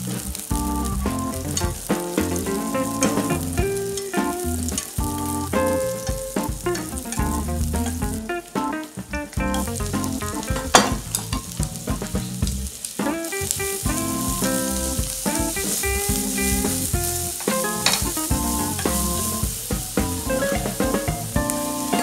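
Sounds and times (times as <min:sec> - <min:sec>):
food sizzling in frying pan: 0:00.0 - 0:09.0, 0:09.6 - 0:22.0
background music: 0:00.3 - 0:12.4, 0:13.0 - 0:22.0.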